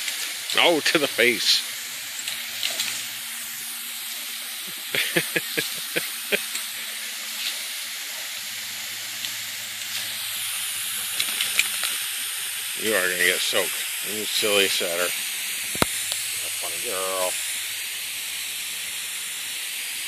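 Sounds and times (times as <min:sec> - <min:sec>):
garden hose spraying mist: 0:00.0 - 0:20.0.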